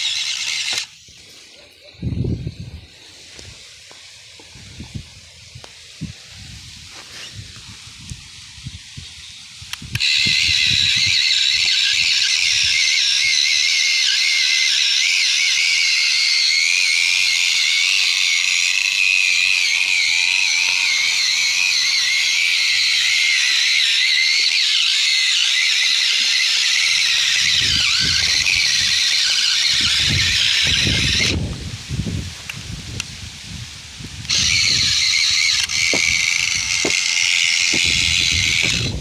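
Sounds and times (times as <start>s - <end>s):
small electric motor whining: 0.0s - 39.0s.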